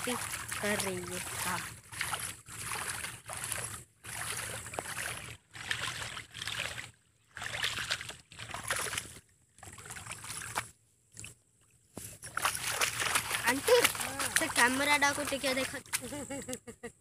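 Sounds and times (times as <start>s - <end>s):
splashing and sloshing in muddy water: 0.0s - 16.6s.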